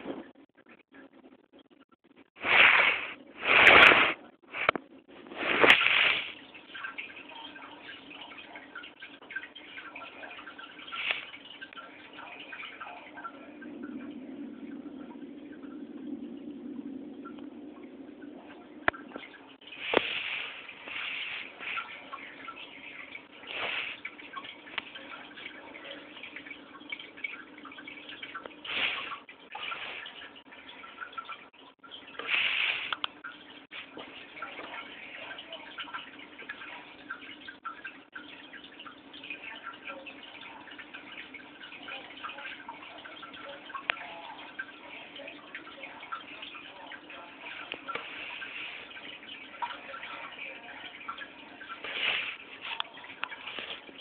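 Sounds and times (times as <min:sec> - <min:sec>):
aquarium water trickling and dripping: 0:00.0 - 0:54.0
rushes of water: 0:02.4 - 0:54.0
faint low hum: 0:04.1 - 0:54.0
small bubbling ticks: 0:04.6 - 0:54.0.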